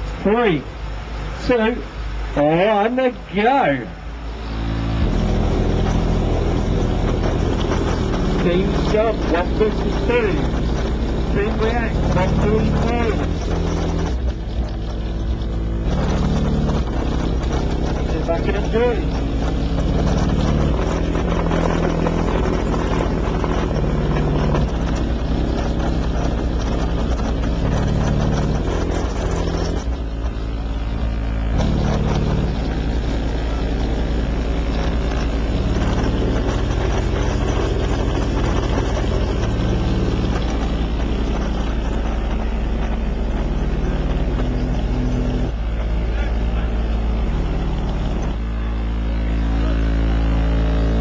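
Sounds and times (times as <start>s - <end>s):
subwoofers playing deep bass: 0.0s - 51.0s.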